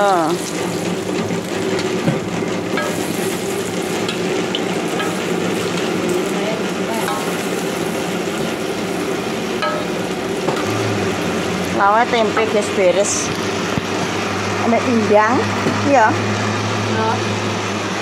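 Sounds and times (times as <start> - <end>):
food sizzling in hot oil: 0.0 - 16.9.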